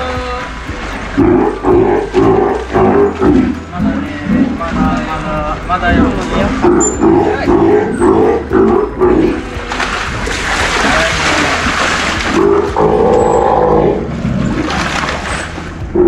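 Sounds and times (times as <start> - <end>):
sea lions calling: 0.0 - 16.0
water splashing: 0.0 - 16.0.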